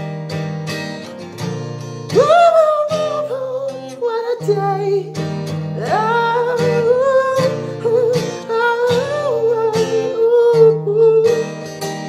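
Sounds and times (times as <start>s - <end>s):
strummed acoustic guitar: 0.0s - 12.0s
person singing wordlessly: 2.1s - 11.8s.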